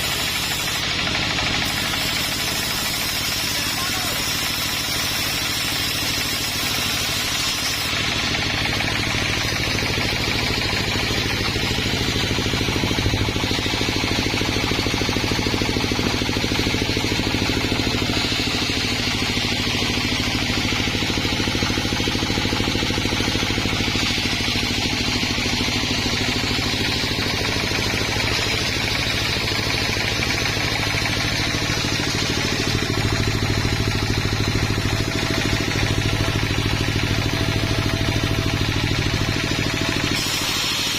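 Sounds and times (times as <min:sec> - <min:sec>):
steady rattle: 0:00.0 - 0:03.7, 0:04.4 - 0:40.9
sawmill engine running: 0:00.0 - 0:40.9.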